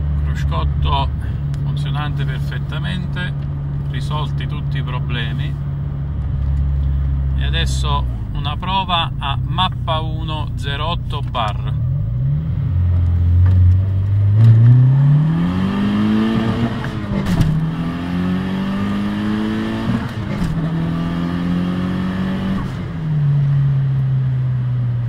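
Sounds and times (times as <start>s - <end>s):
turbo car engine accelerating: 0.0s - 25.0s.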